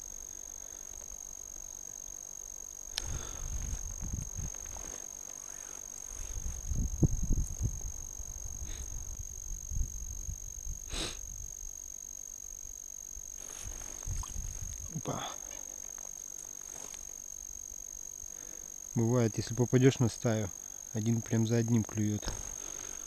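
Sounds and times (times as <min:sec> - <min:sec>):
steady high-pitched whine: 0:00.0 - 0:23.0.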